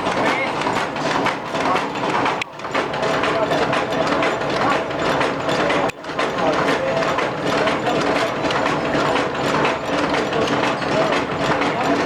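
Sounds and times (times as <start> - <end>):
machine clattering: 0.0 - 12.0.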